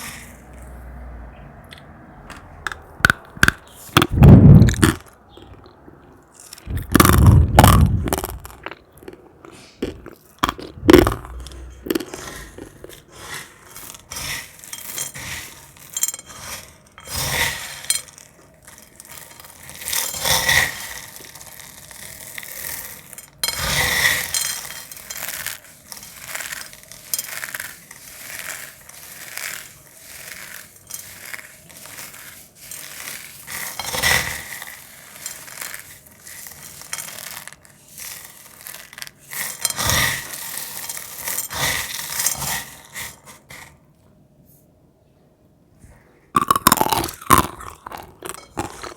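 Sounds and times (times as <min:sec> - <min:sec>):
dried cornstarch crunching: 0:00.0 - 0:01.0, 0:01.7 - 0:43.8, 0:46.4 - 0:48.9.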